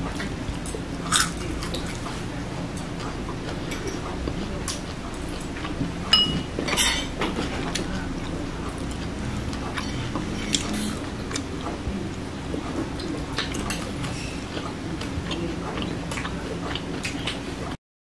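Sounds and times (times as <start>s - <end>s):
low background hum: 0.0s - 17.8s
crunchy chewing: 0.2s - 5.8s, 7.4s - 17.5s.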